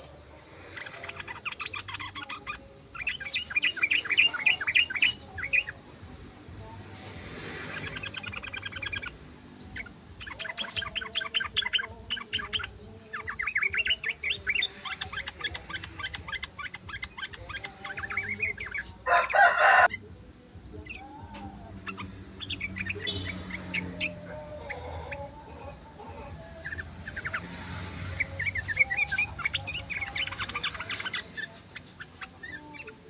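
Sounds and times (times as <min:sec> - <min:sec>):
birds chattering: 0:00.0 - 0:33.0.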